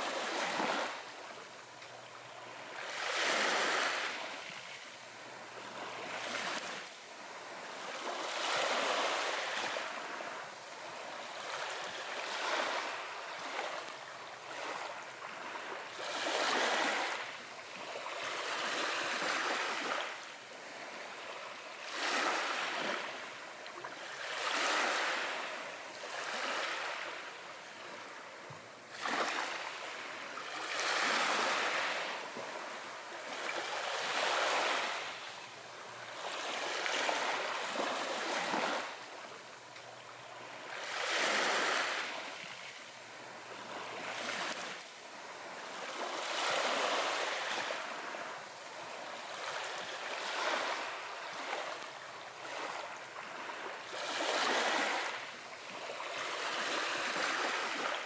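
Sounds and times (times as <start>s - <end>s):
ocean waves washing in: 0.0s - 23.6s, 24.2s - 58.0s.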